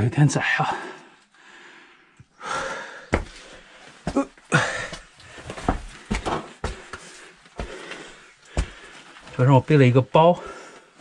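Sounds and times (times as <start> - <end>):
person breathing hard: 0.7 - 9.3, 10.4 - 11.0.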